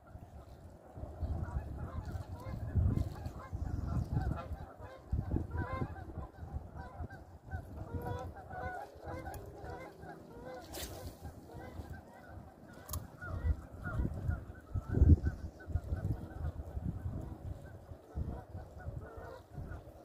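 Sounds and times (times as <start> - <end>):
wind rumble on microphone: 0.0 - 20.0
geese honking: 1.2 - 20.0.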